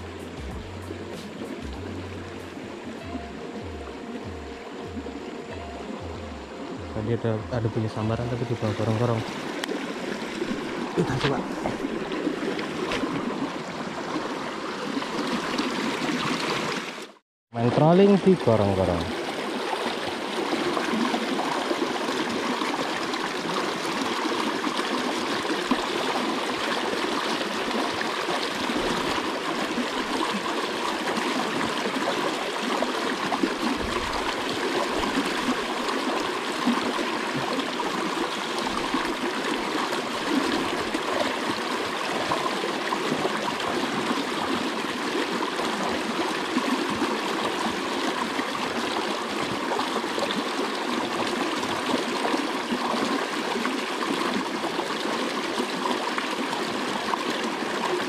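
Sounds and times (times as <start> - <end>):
water rushing and splashing: 0.0 - 58.0.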